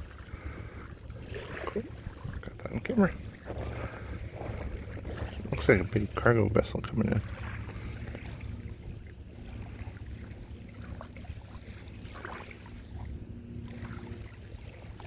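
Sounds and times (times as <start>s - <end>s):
distant engine hum: 0.0s - 15.0s
wind rumbling on microphone: 0.0s - 15.0s.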